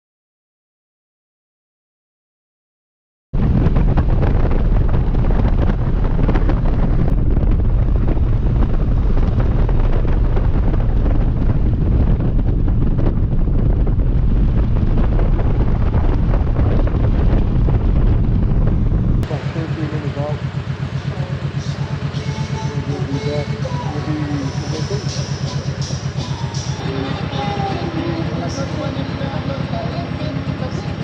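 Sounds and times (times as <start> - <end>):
motorcycle engine drone: 3.4 - 31.0
wind buffeting microphone: 3.4 - 31.0.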